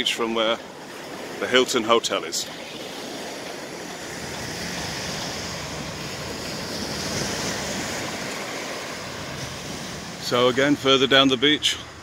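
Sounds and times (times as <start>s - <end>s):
surf washing onto sandy beach: 0.0s - 12.0s.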